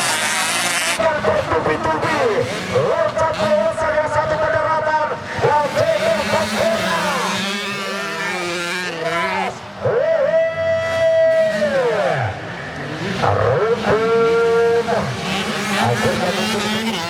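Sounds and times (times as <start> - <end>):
dirt-bike engines revving: 0.0 - 17.0.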